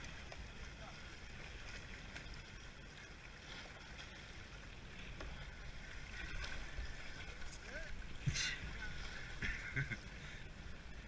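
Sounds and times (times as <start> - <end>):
light water splashes: 0.0 - 11.0
sea water sloshing: 0.0 - 11.0.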